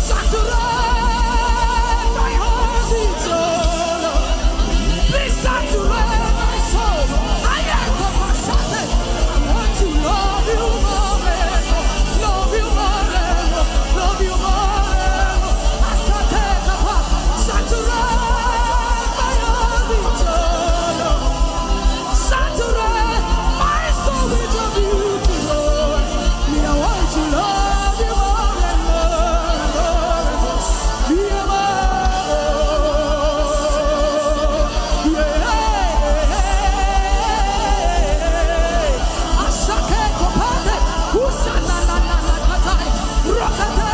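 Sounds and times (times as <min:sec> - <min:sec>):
worship music with fast beat: 0:00.0 - 0:43.9.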